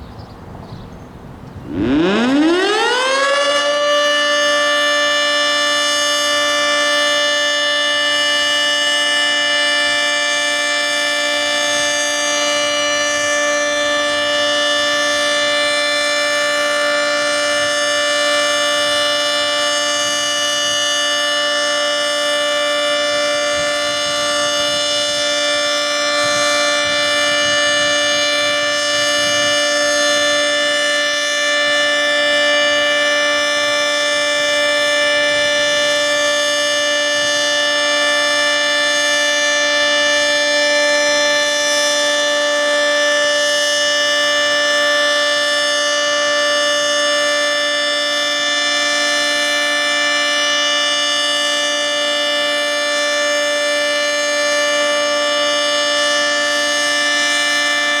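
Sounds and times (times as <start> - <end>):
two-tone warning siren: 1.6 - 58.0.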